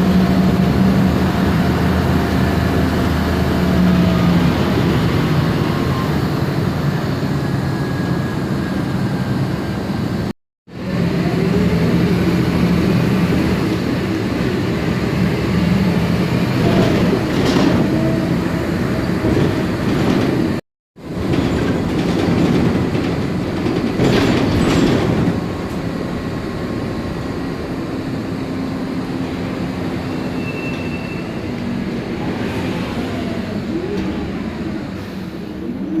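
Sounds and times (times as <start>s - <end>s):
bus engine running on board: 0.0s - 36.0s.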